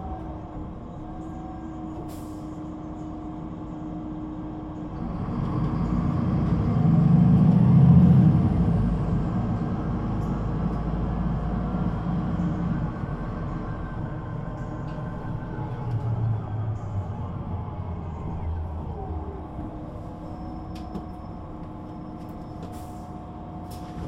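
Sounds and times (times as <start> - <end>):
bus diesel engine rumbling: 0.0 - 24.0.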